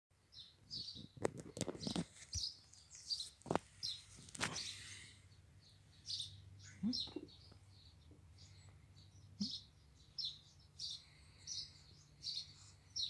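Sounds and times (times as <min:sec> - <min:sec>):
blackbird chirping: 0:00.2 - 0:13.0.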